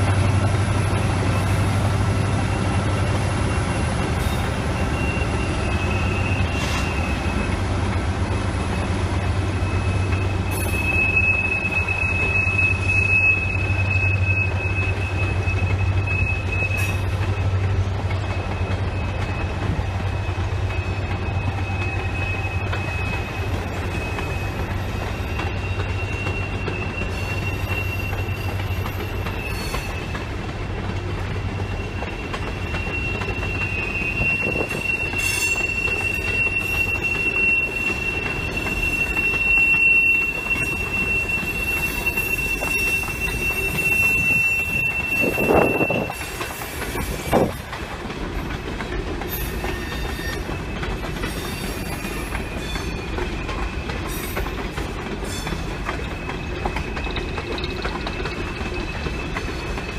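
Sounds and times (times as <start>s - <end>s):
rumble of steel wheels on rail: 0.0s - 59.9s
train wheels squealing: 0.0s - 59.9s.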